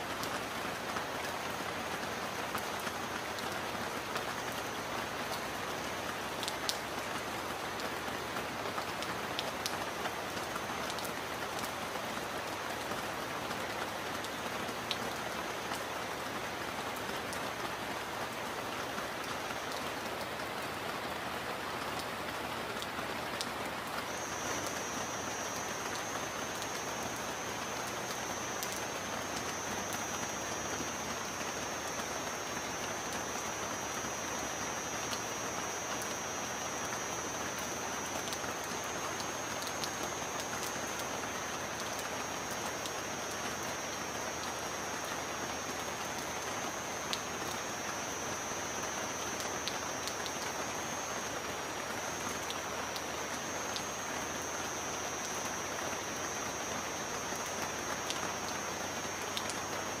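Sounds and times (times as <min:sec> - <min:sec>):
rain drops ticking: 0:00.0 - 1:00.0
steady rain hissing: 0:00.0 - 1:00.0.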